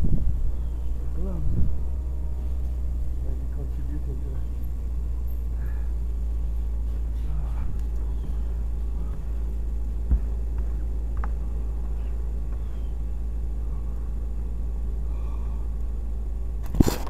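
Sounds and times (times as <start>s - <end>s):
car engine idling: 0.0s - 16.8s.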